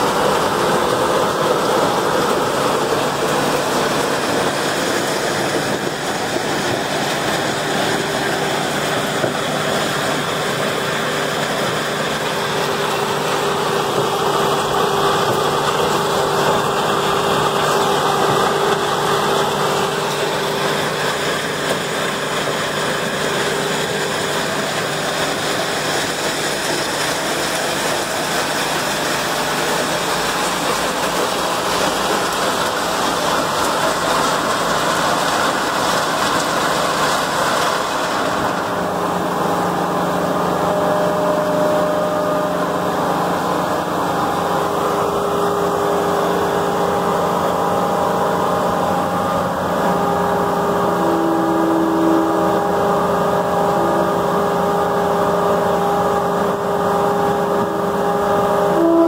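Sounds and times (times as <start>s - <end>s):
wood grinder running: 0.0s - 59.0s.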